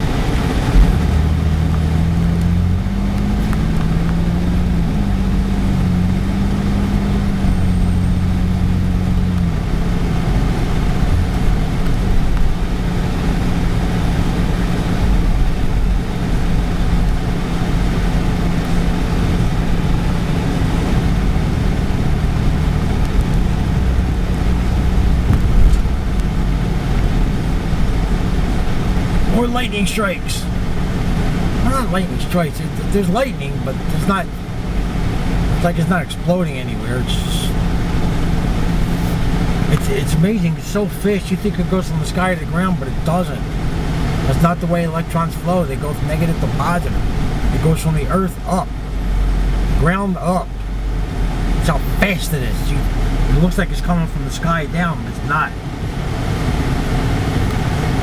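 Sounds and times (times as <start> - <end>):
car engine hum: 0.0 - 58.0
road noise inside car: 0.0 - 58.0.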